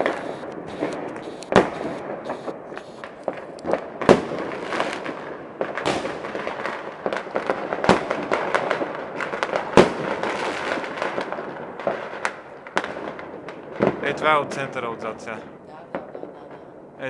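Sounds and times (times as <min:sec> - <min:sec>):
firecrackers crackling: 0:00.0 - 0:17.0
loud firework bangs: 0:00.0 - 0:17.0.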